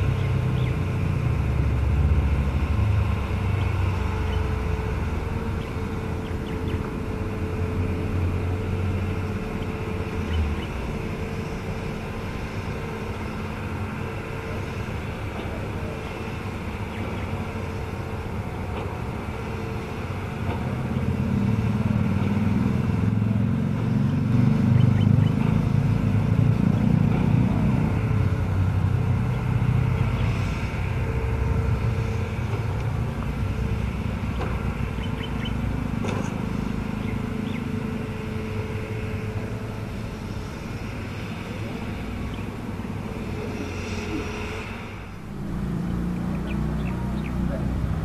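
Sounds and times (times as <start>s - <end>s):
excavator diesel engine under load: 0.0s - 48.0s.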